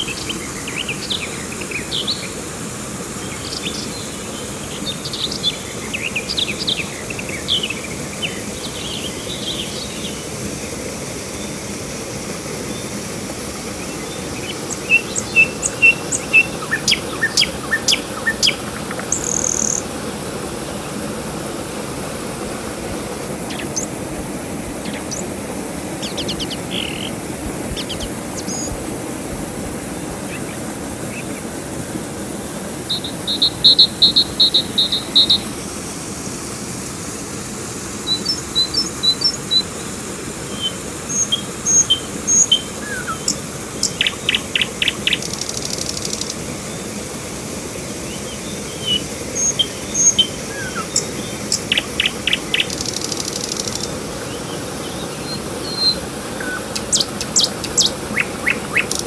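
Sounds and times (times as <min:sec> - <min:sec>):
birds chirping: 0:00.0 - 0:10.6, 0:12.7 - 0:19.9, 0:23.3 - 0:35.8, 0:38.0 - 0:47.0, 0:48.0 - 0:59.0
background hiss: 0:00.0 - 0:59.0.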